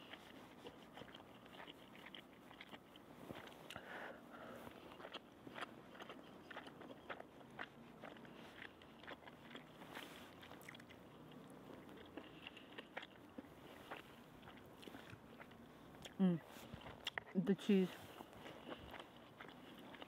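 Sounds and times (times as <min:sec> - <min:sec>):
person chewing: 0:00.0 - 0:17.4, 0:18.0 - 0:20.0.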